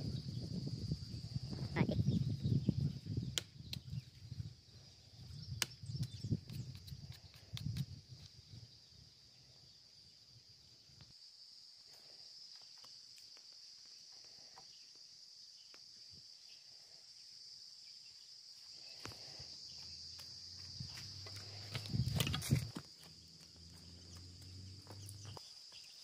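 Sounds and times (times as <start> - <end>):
high-pitched insect drone: 0.0 - 3.2, 3.9 - 26.0.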